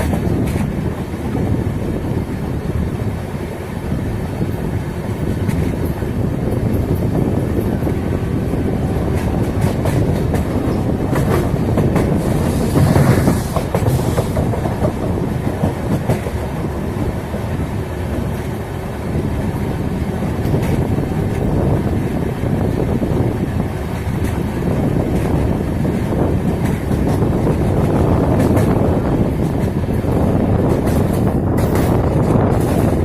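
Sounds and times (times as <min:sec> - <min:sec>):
clickety-clack over rail joints: 0:00.0 - 0:33.0
train wheels rumbling: 0:00.0 - 0:33.0.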